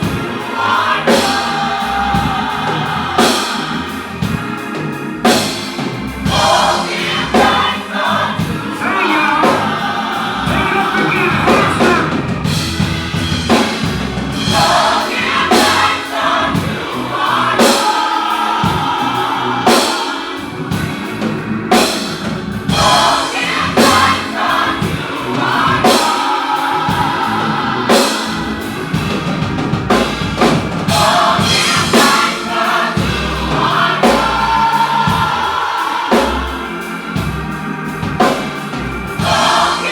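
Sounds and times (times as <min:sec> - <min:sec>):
bass and keyboard: 0:00.0 - 0:39.9
choir singing: 0:00.0 - 0:39.9
drum kit beat: 0:00.0 - 0:39.9.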